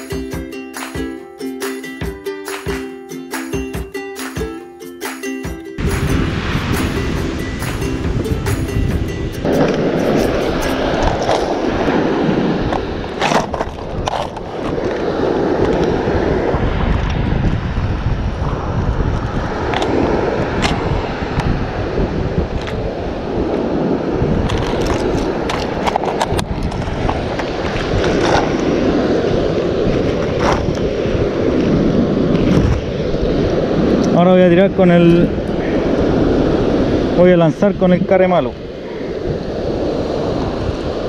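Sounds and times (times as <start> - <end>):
wind on microphone: 5.7 - 41.0.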